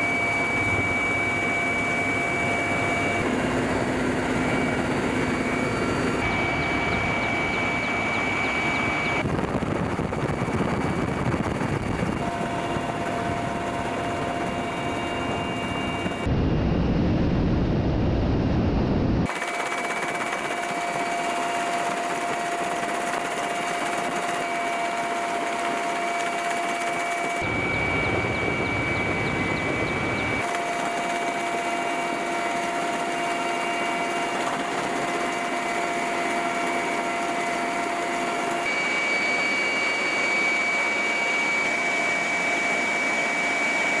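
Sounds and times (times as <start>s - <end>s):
helicopter rotor rushing noise: 0.0s - 44.0s
helicopter turbine whine: 0.0s - 44.0s.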